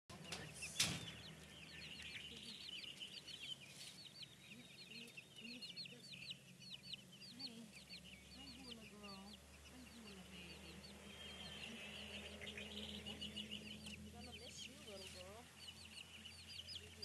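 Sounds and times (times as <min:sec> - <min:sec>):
chicks and ducklings peeping: 0:00.1 - 0:17.0.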